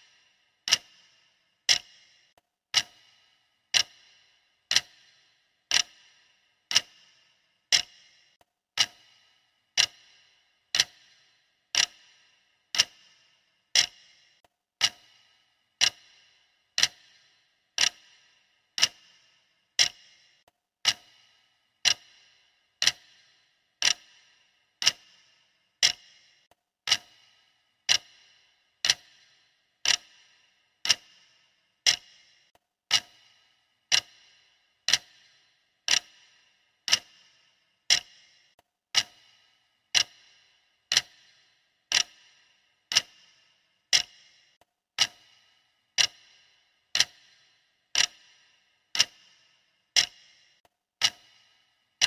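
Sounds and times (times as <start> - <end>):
clock ticking: 0.0 - 52.0.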